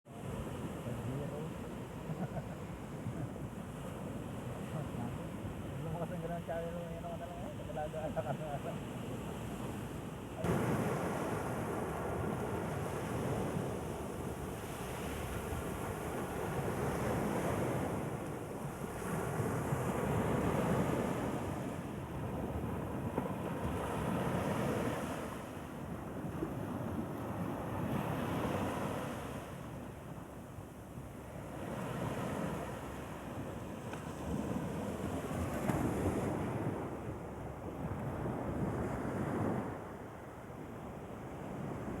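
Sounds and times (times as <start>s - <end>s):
sea waves breaking on shore: 0.1s - 42.0s.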